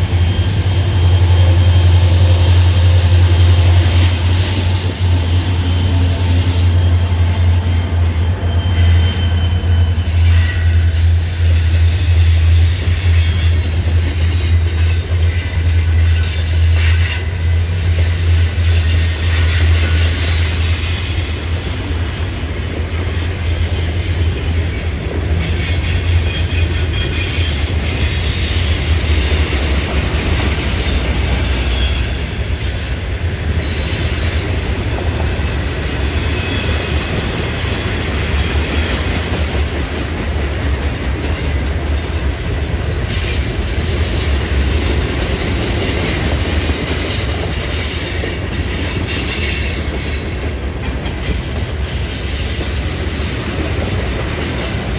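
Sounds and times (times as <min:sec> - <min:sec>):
wheel squeals: 0:00.0 - 0:32.9, 0:41.4 - 0:50.4, 0:52.2 - 0:54.9
freight train rumbling past: 0:00.0 - 0:54.9.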